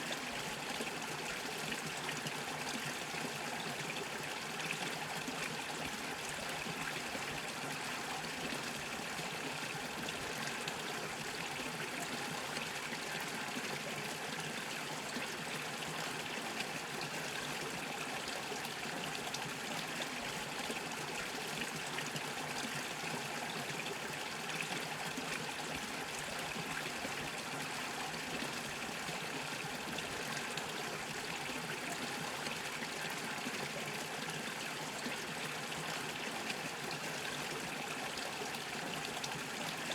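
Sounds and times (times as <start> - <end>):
brook bubbling over stones: 0.1 - 39.9.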